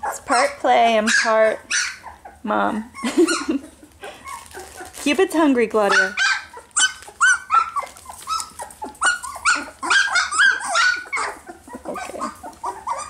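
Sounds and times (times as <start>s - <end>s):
puppies yipping and whining: 0.0s - 13.0s.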